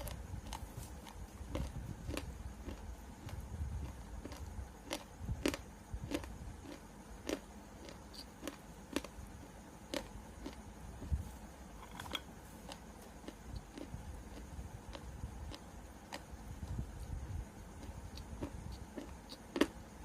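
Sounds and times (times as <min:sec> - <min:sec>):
chewing with wet crunches: 0:00.0 - 0:10.8, 0:12.6 - 0:20.0.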